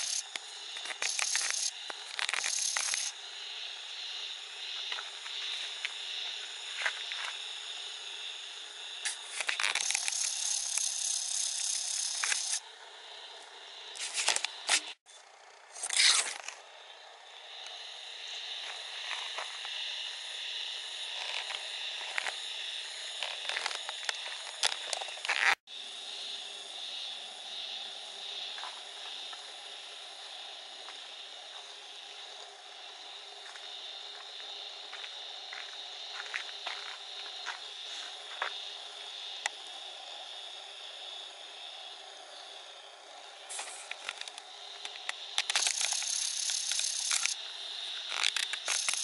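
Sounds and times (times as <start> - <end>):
steady outdoor hiss: 0.0 - 49.0.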